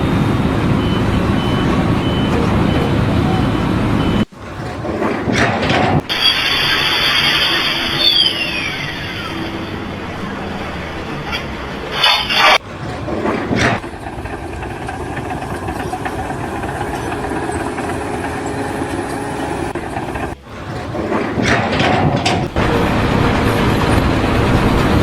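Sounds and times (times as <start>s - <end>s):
heavy machinery noise: 0.0s - 25.0s.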